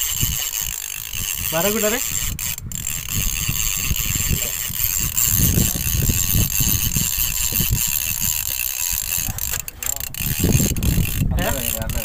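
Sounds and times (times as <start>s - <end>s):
boat engine running: 0.0s - 12.0s
wind rumbling on microphone: 0.0s - 12.0s.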